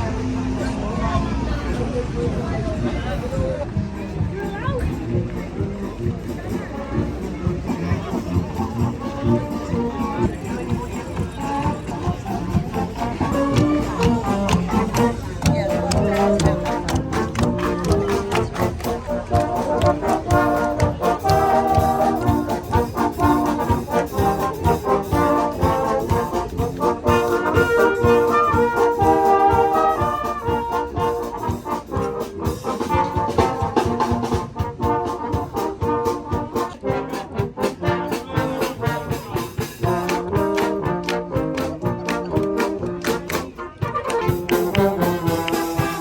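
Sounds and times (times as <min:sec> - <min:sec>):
brass band playing: 0:02.2 - 0:46.0
steady drumbeat: 0:03.4 - 0:46.0.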